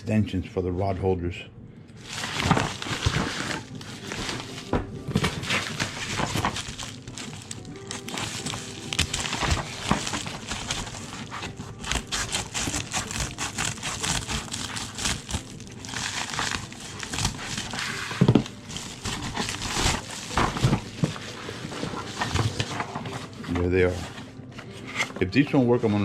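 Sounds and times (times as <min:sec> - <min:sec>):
packaging crinkling and rustling: 0:02.0 - 0:26.0.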